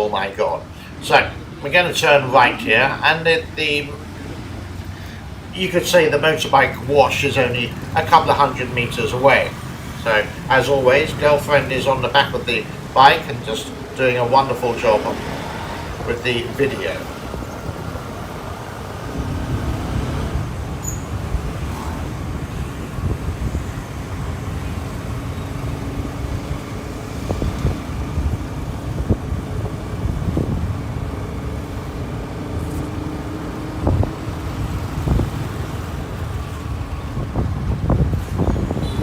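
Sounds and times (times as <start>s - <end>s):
motorbike engine rumble: 0.0s - 39.0s
traffic noise: 0.0s - 39.0s.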